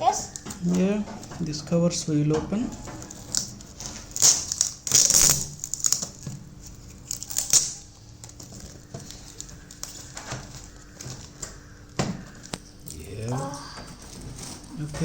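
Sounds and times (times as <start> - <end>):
plastic rustling: 0.0 - 15.0
plastic crinkling and tearing: 2.8 - 15.0.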